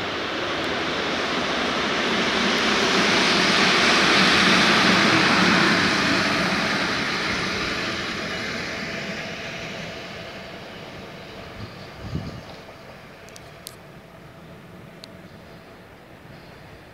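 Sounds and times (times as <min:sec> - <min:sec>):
electric locomotive passing: 0:00.0 - 0:16.9.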